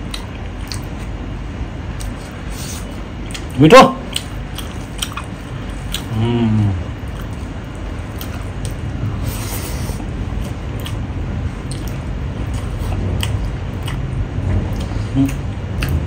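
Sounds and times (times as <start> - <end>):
wet chewing: 0.0 - 1.2, 1.9 - 16.0.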